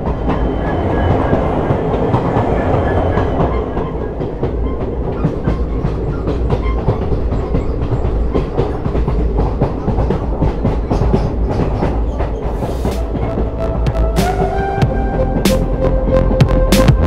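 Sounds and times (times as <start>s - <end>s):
wheels clattering over rail joints: 0.0s - 16.1s
low train rumble: 0.0s - 17.0s.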